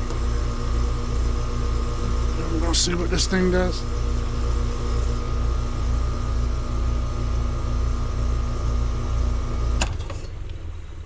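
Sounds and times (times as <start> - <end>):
heat pump humming: 0.0 - 11.0.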